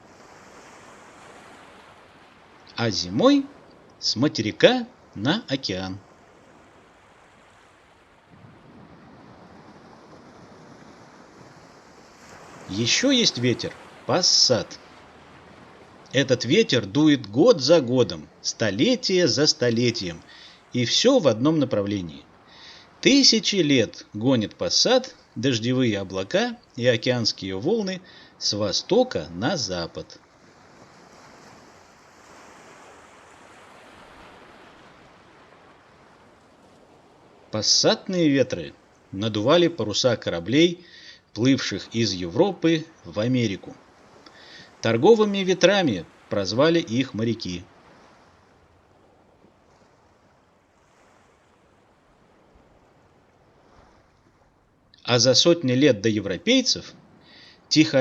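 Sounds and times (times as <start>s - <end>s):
faint steady rushing noise: 0.0s - 58.0s
wind: 0.0s - 58.0s.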